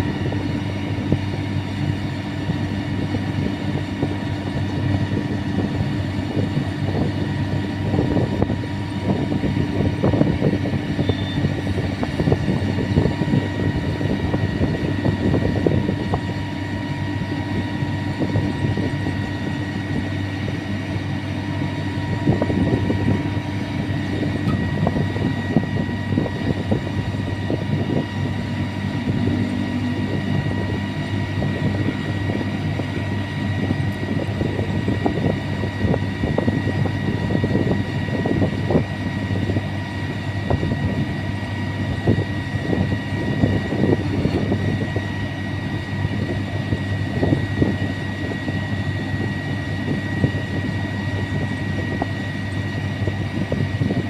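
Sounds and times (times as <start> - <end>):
drilling rig engine running: 0.0 - 54.0
high whine: 0.0 - 54.0.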